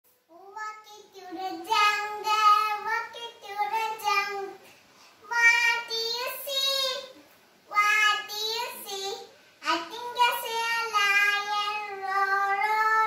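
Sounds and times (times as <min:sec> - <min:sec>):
girl singing unaccompanied: 0:00.2 - 0:13.0.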